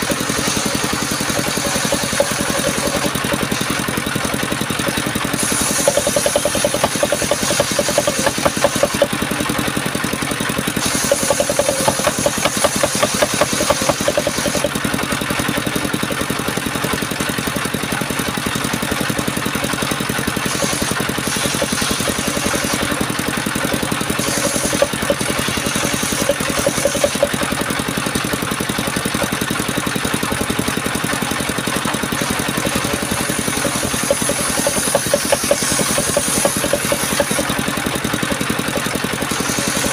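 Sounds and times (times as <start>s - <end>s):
saw blade cutting timber: 0.0s - 39.9s
sawmill engine running: 0.0s - 39.9s.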